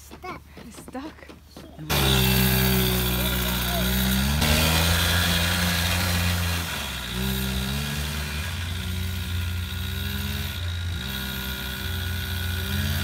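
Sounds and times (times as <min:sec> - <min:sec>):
snowmobile engine running: 0:01.9 - 0:13.0.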